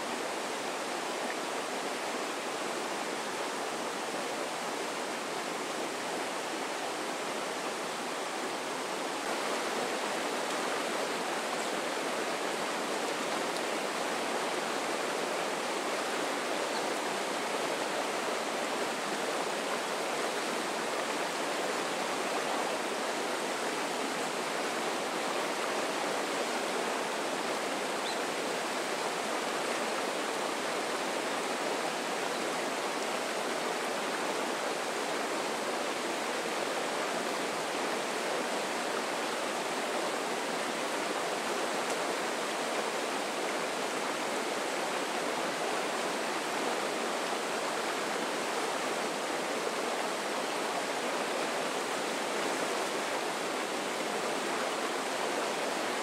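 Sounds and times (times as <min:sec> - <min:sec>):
river rapids rushing over rocks: 0:00.0 - 0:56.0.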